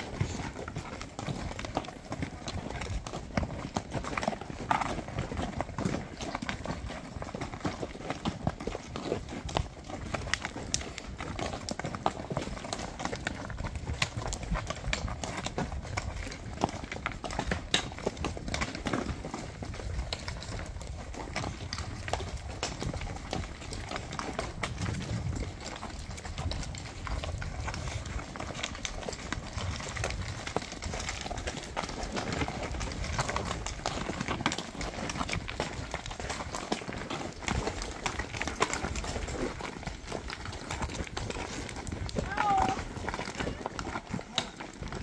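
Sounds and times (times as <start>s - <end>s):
hooves clopping on stones: 0.0s - 45.0s.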